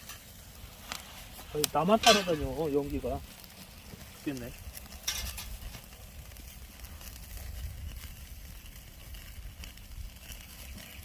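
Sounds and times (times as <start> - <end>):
firewood fire crackling: 0.0 - 11.0.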